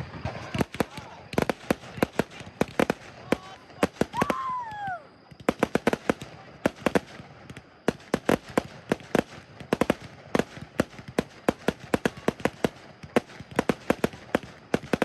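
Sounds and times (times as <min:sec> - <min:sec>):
fireworks cracking: 0:00.0 - 0:15.0.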